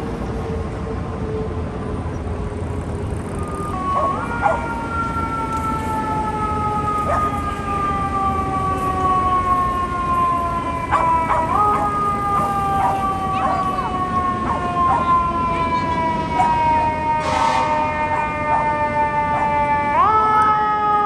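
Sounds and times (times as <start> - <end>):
fire engine siren wailing: 0.0 - 21.0.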